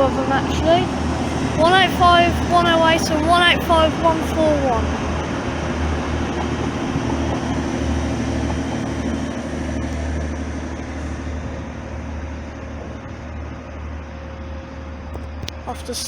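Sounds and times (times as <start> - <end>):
diesel train engine drone: 0.0 - 16.0.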